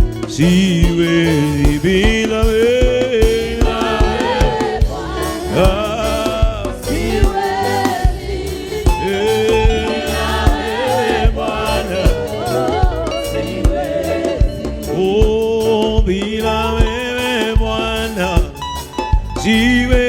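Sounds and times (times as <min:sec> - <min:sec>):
band accompaniment with beat: 0:00.0 - 0:20.0
voices singing gospel: 0:00.0 - 0:20.0.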